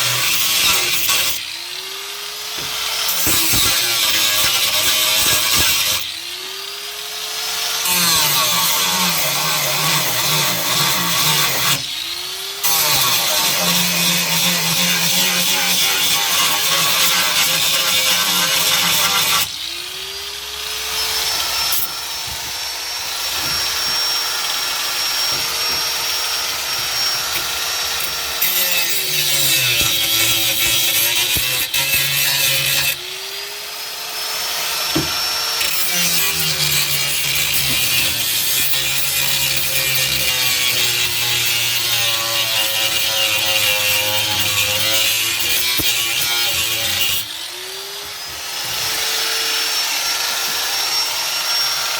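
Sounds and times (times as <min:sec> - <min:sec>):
power tool motor whining: 0:00.0 - 0:51.9.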